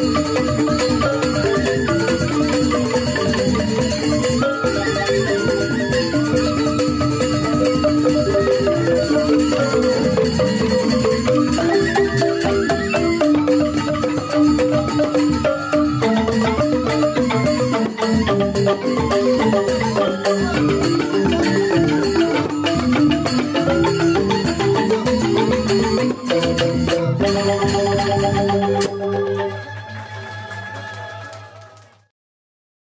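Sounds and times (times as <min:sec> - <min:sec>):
bamboo xylophones playing: 0:00.0 - 0:30.6
bamboo flute: 0:00.0 - 0:31.8.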